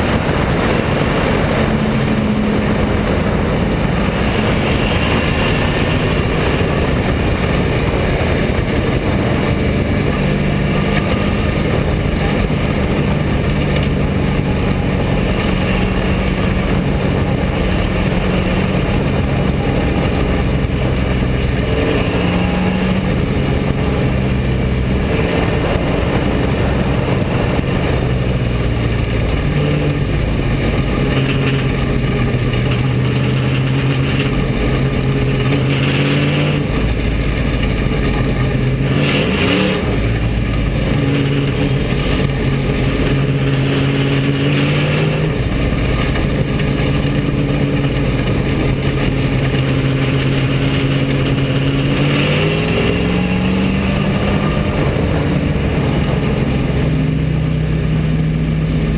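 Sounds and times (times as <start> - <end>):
race car engine running hard: 0.0 - 58.9
rush of car and track: 0.0 - 58.9.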